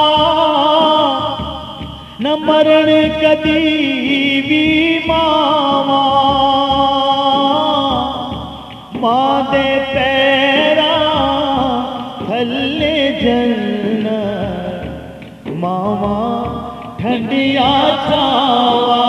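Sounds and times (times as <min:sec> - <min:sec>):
instrumental accompaniment with beat: 0:00.0 - 0:19.0.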